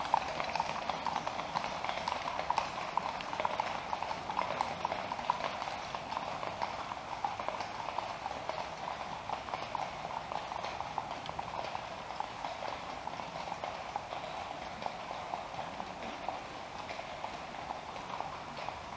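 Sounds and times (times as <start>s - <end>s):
horse hooves clip-clopping on pavement: 0.0s - 18.9s.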